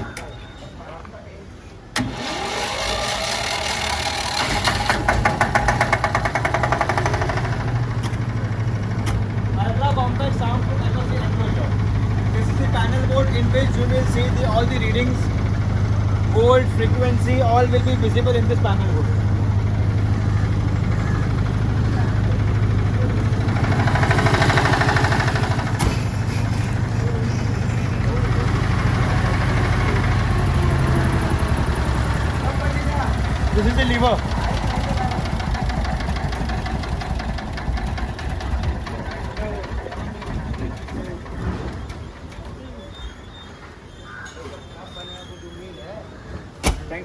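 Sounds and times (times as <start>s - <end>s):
electric starter cranking: 1.9s - 42.5s
diesel engine clattering: 1.9s - 44.2s.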